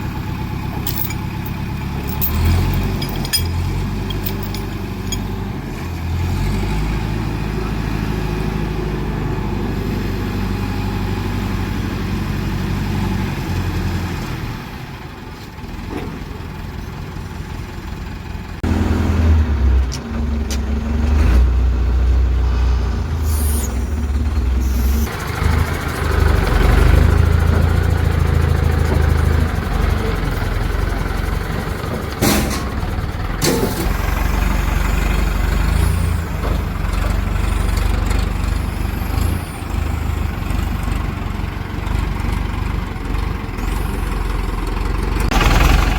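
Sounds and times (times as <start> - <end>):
heavy diesel engine revving: 0.0 - 14.8, 18.6 - 45.9.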